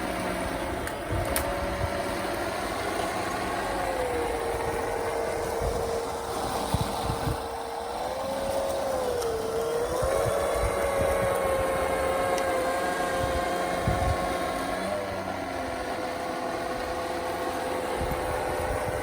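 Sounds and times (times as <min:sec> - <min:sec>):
model snowblower motor whine: 0:00.0 - 0:19.0.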